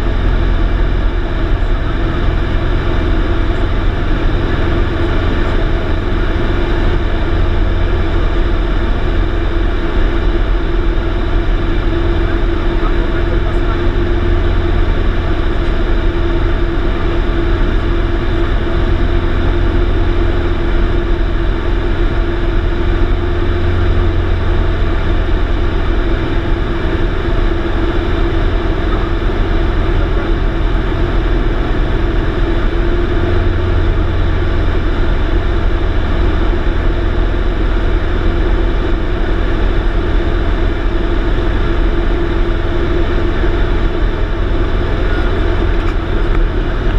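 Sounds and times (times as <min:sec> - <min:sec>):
light aircraft engine drone: 0:00.0 - 0:46.9.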